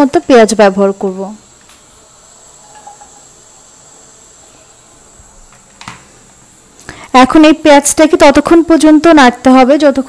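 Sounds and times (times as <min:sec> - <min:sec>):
faint steady hiss: 0:00.0 - 0:10.0
thin high whine: 0:00.0 - 0:10.0.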